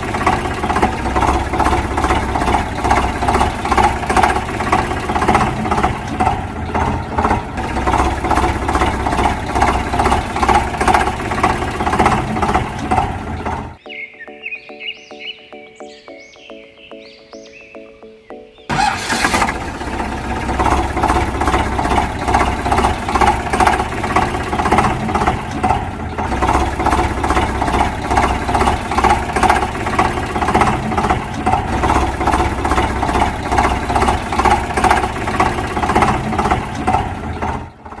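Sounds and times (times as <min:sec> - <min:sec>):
engine idling: 0:00.0 - 0:13.8, 0:18.7 - 0:38.0.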